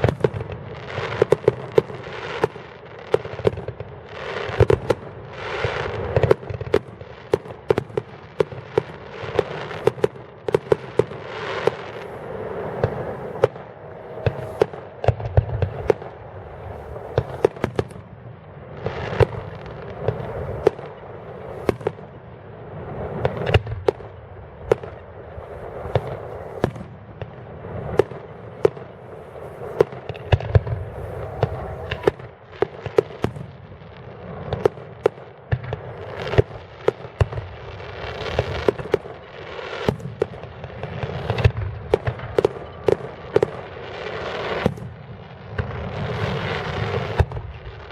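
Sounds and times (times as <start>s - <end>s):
deep fireworks booms: 0.0s - 47.9s
fireworks sharp bangs: 0.0s - 47.9s.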